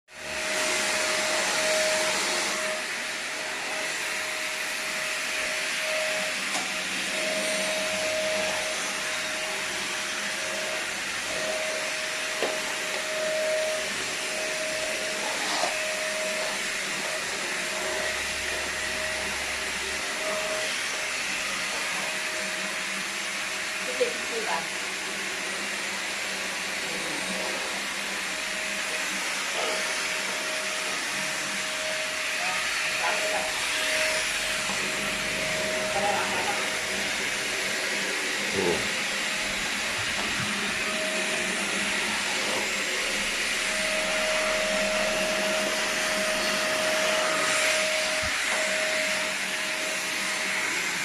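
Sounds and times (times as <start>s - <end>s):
vacuum cleaner running: 0.1s - 51.0s.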